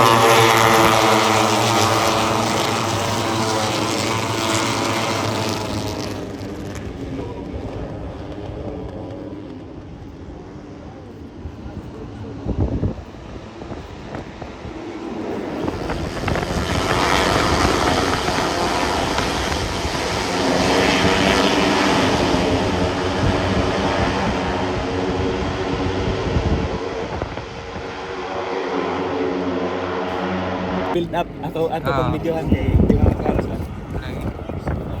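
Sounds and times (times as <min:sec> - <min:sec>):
racing motorcycles passing: 0:00.0 - 0:35.0.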